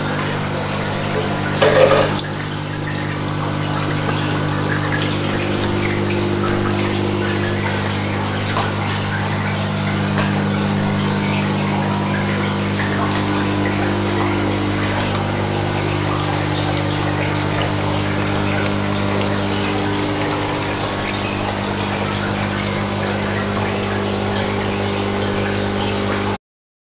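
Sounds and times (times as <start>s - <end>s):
aquarium pumps humming: 0.0s - 26.4s
water bubbling and trickling: 0.0s - 26.4s.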